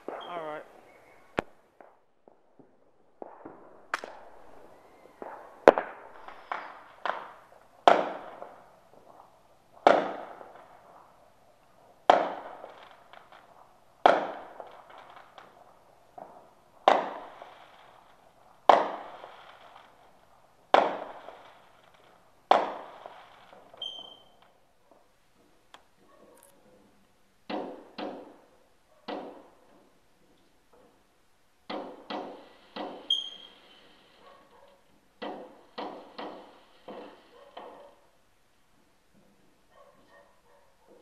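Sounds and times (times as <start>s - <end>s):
fireworks bursting with sharp bangs: 0.0s - 41.0s.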